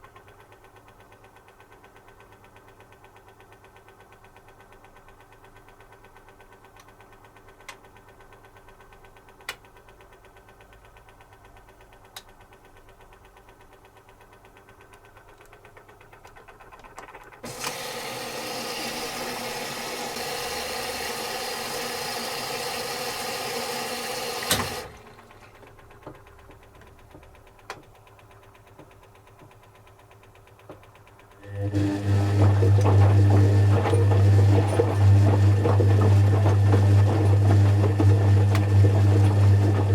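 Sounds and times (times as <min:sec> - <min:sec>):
washing machine hum: 0:00.0 - 0:39.9.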